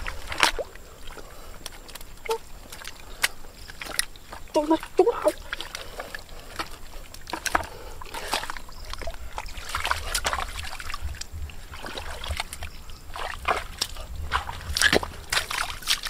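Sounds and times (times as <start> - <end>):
hands splashing in muddy water: 0.0 - 16.0.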